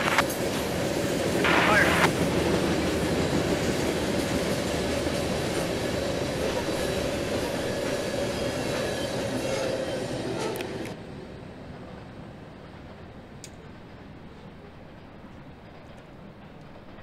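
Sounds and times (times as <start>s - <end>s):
freight train rolling by: 0.0s - 17.0s.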